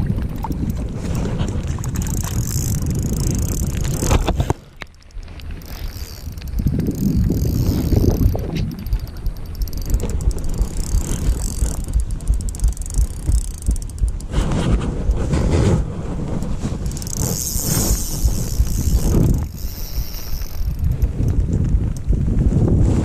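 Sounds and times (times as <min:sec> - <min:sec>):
fine rapid ticking: 0:00.0 - 0:15.5, 0:16.3 - 0:22.3
wind buffeting microphone: 0:00.0 - 0:23.0.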